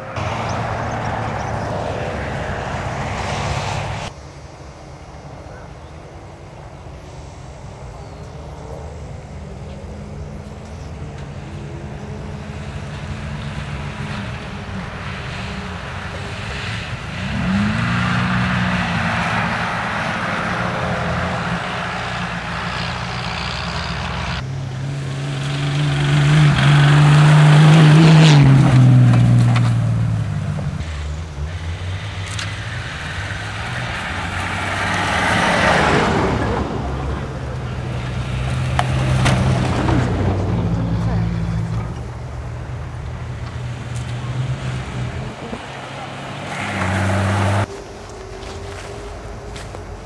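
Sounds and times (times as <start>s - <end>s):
off-road engines revving: 0.0s - 50.0s
vehicle approaching: 0.0s - 50.0s.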